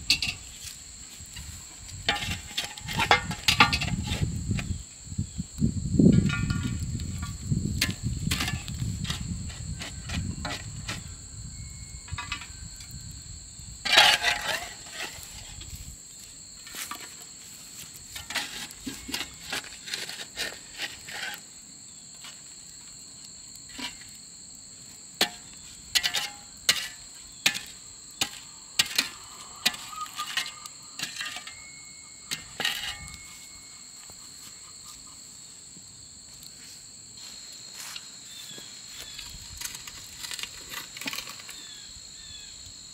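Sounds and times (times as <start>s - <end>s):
shovel scraping coals: 0.0s - 4.8s, 6.1s - 11.2s, 13.8s - 35.1s, 36.4s - 41.9s
insects trilling: 0.0s - 42.9s.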